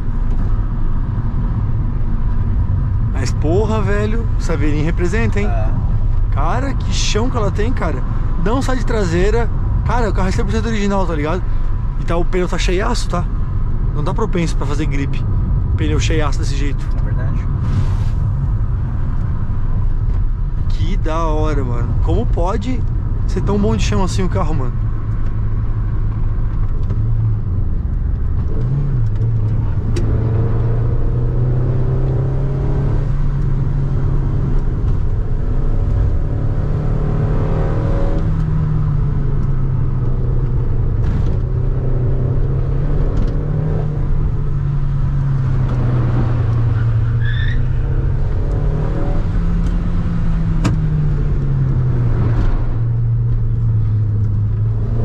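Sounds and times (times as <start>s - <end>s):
car engine accelerating: 0.0s - 55.0s
road and tyre noise: 0.0s - 55.0s.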